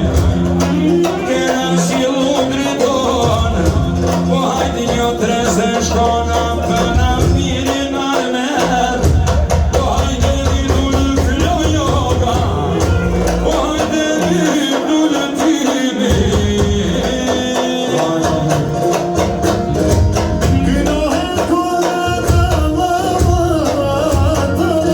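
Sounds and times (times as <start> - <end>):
person singing over a band: 0.0 - 24.9.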